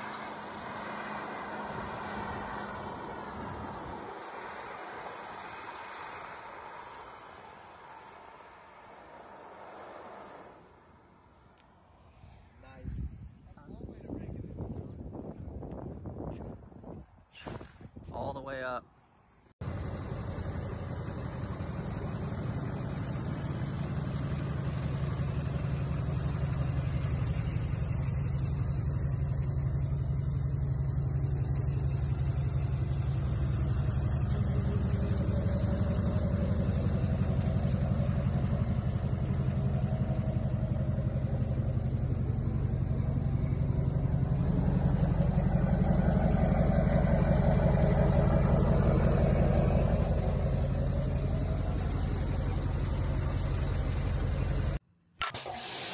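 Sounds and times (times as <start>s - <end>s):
diesel engine running: 0.0s - 11.7s, 19.6s - 55.9s.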